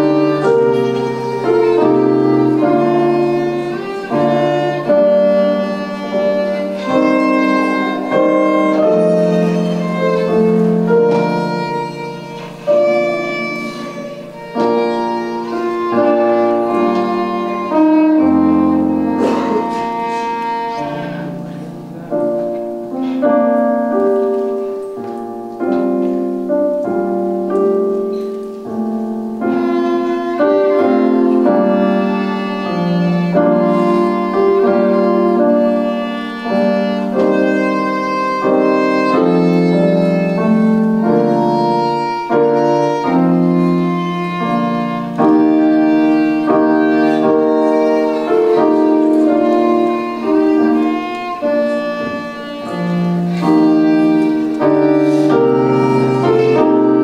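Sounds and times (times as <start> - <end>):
digital piano chords: 0.0 - 57.0
violin melody: 0.0 - 57.0.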